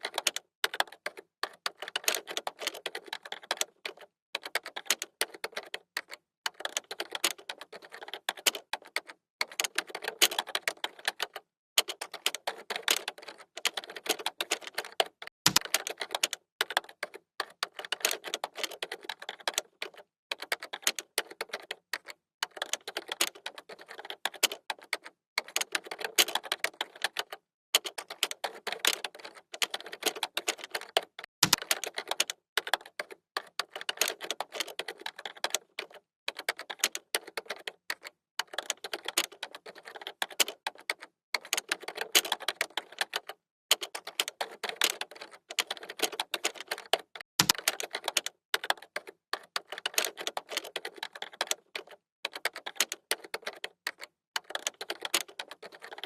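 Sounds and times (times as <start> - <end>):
computer keyboard typing: 0.0 - 56.0.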